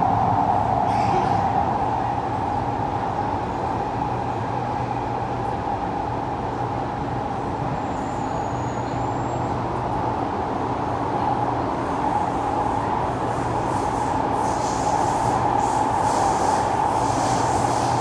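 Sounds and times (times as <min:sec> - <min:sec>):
metro train rumble: 0:00.0 - 0:18.0.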